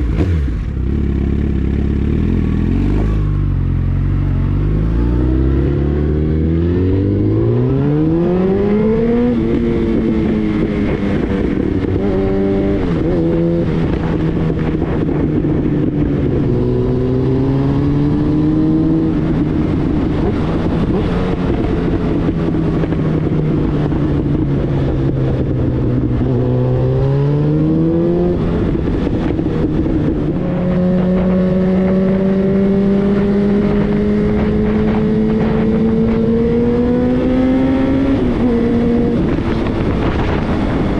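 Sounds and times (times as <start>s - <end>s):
motorcycle engine under way: 0.0s - 40.9s.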